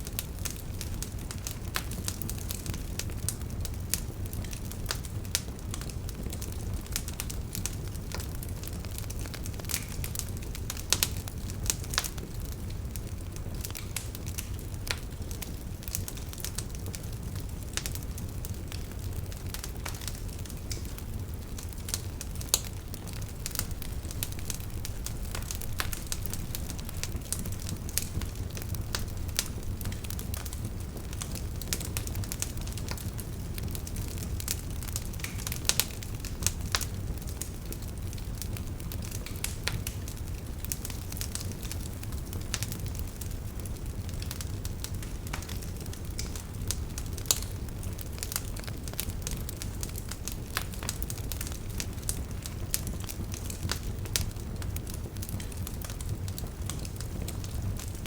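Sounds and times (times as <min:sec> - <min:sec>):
campfire flames rumbling: 0:00.0 - 0:58.0
fire crackling and popping: 0:00.0 - 0:58.0.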